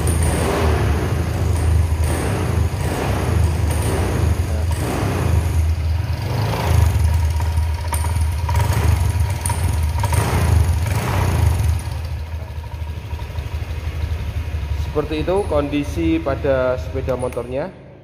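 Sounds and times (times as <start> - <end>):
scooter engine revving: 0.0 - 16.5.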